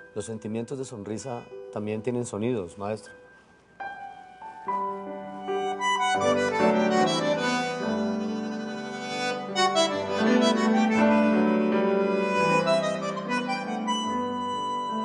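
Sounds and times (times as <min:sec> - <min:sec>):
piano: 0:00.0 - 0:15.0
sustained melody of held notes: 0:01.8 - 0:15.0.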